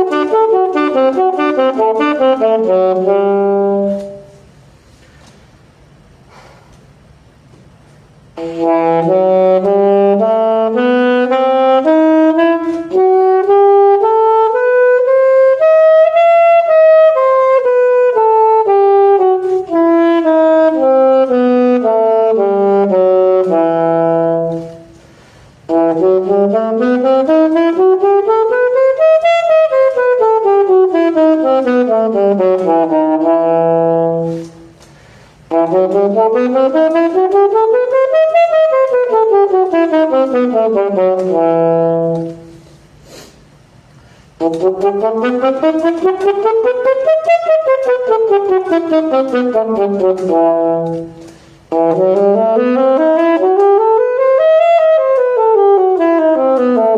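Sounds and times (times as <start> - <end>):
saxophone playing scales: 0.0 - 5.0, 8.2 - 43.2, 44.1 - 56.9.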